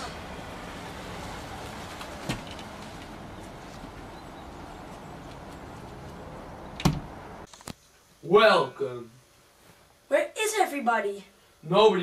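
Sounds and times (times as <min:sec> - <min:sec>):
outdoor hiss with low rumble: 0:00.0 - 0:12.0.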